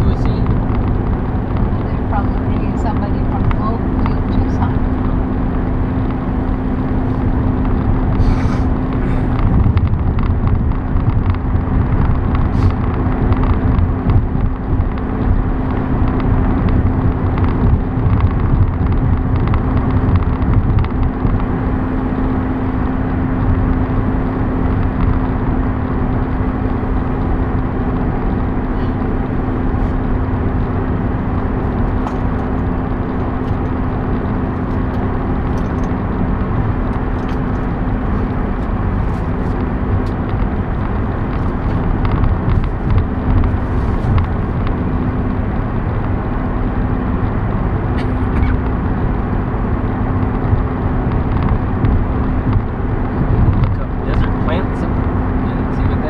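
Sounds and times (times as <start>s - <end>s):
car road and engine noise: 0.0s - 56.0s
constant low hum: 0.0s - 56.0s.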